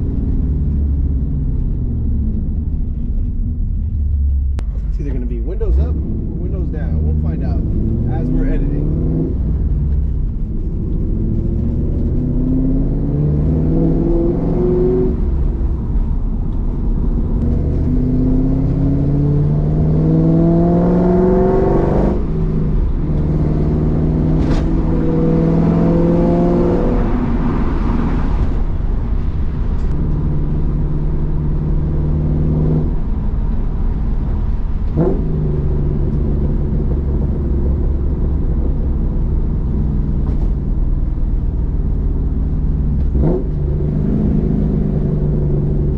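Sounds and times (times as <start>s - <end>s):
car engine accelerating: 0.0s - 45.9s
road rumble: 0.0s - 45.9s.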